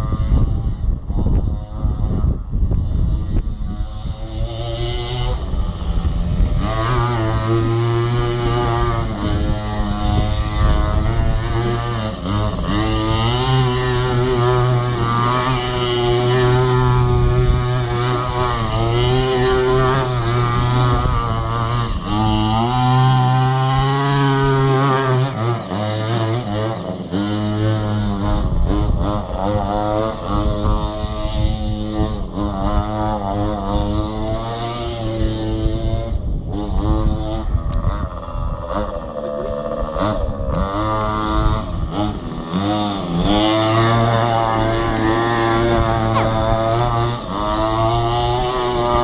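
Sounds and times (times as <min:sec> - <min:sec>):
small two-stroke engine revving: 0:00.0 - 0:49.0.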